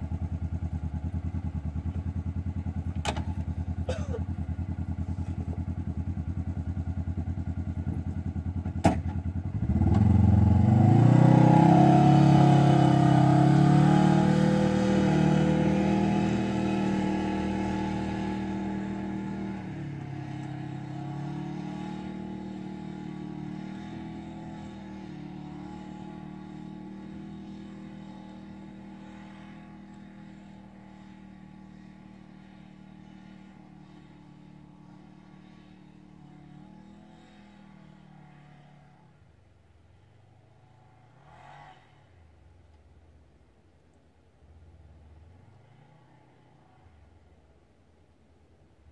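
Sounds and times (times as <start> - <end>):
engine idling and revving: 0.0 - 42.4, 44.5 - 47.3.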